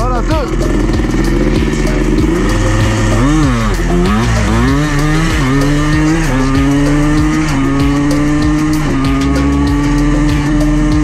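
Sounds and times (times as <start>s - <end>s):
two-stroke engine at full throttle: 0.0s - 11.0s.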